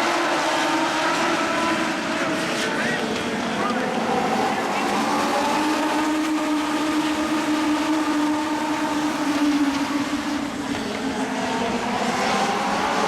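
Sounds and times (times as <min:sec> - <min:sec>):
race car engines high-revving: 0:00.0 - 0:13.0.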